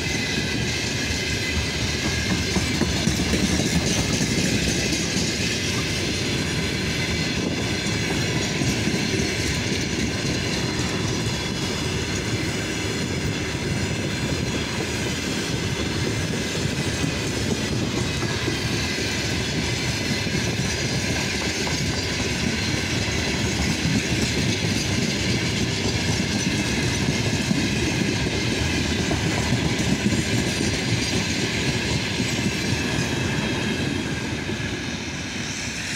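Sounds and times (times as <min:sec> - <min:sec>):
wheels clattering on rails: 0:00.0 - 0:34.8
freight train passing: 0:00.0 - 0:35.9.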